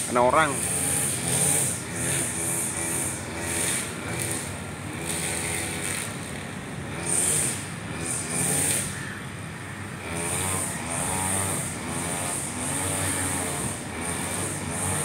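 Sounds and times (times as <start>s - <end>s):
brush cutter engine running: 0.0s - 9.0s, 9.9s - 15.0s.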